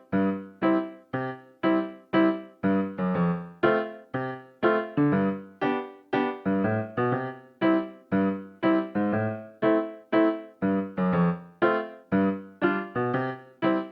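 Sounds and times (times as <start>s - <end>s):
piano melody: 0.0s - 13.9s.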